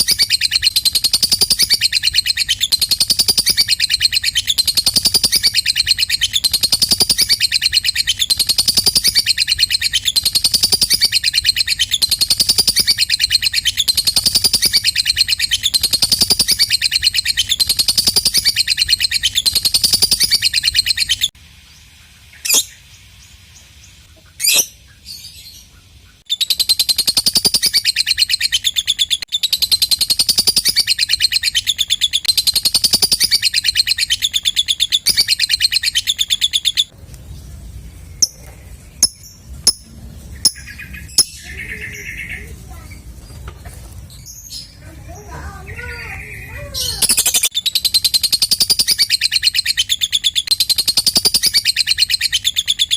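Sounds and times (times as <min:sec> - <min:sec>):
lovebird chattering trill: 0:00.0 - 0:21.4, 0:24.1 - 0:36.9, 0:38.1 - 0:43.5, 0:44.2 - 0:52.9
sharp bird chirps: 0:00.0 - 0:21.4, 0:22.3 - 0:43.5, 0:45.6 - 0:52.9.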